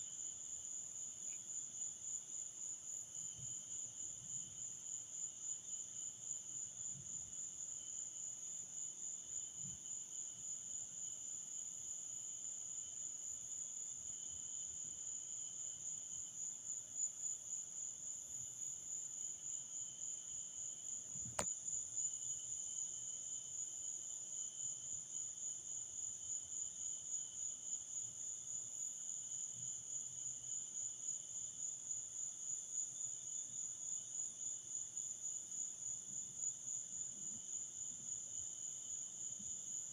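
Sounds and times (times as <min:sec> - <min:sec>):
crickets chirping: 0:00.0 - 0:39.9
low insect song: 0:00.0 - 0:39.9.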